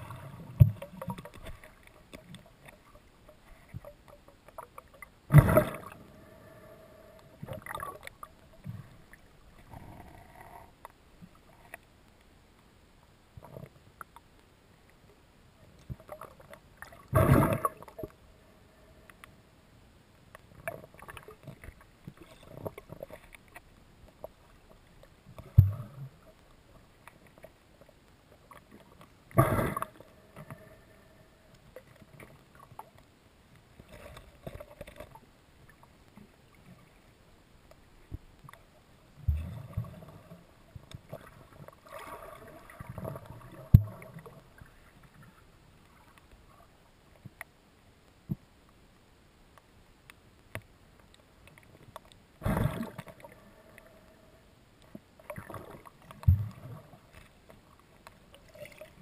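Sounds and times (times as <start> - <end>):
underwater rustle: 0.0 - 59.0.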